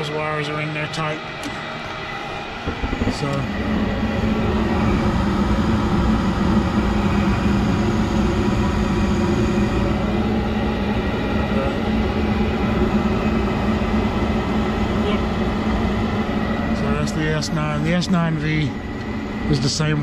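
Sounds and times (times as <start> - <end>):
furnace inducer motor hum: 0.0 - 20.0
gas burners rushing: 0.0 - 20.0.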